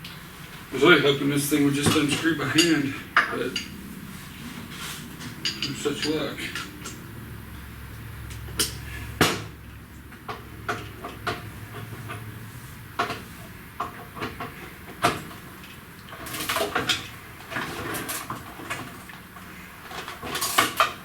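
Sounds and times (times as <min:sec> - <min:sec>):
hand tools clanking on metal: 0:00.8 - 0:04.1, 0:04.7 - 0:07.0, 0:08.3 - 0:21.0.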